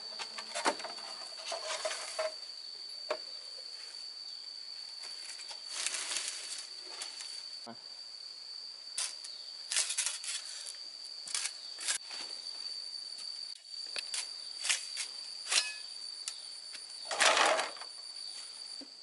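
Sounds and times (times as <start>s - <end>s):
high drone of insects: 0.0s - 19.0s.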